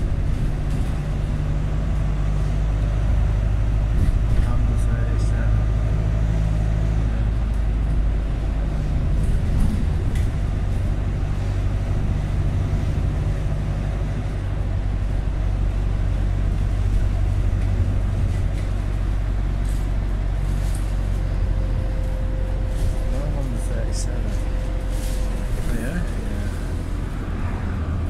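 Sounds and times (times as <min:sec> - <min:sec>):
vehicle engine drone: 0:00.0 - 0:28.0.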